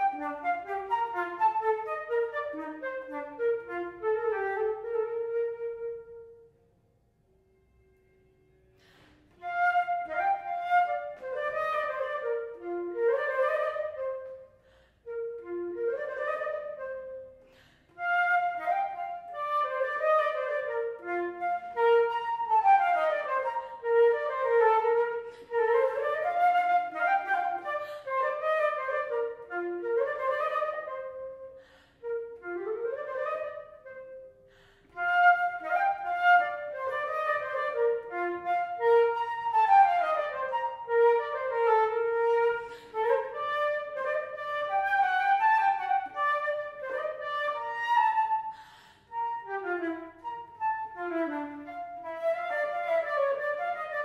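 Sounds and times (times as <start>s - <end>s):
solo flute playing: 0.0s - 54.0s.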